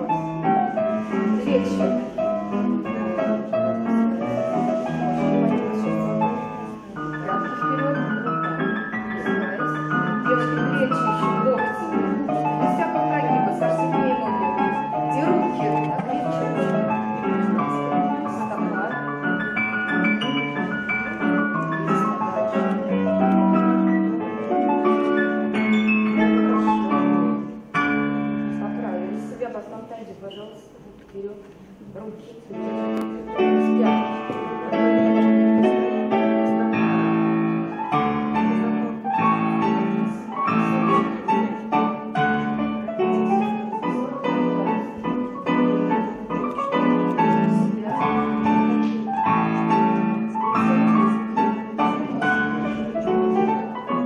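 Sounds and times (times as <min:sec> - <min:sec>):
piano chords: 0:00.0 - 0:54.0.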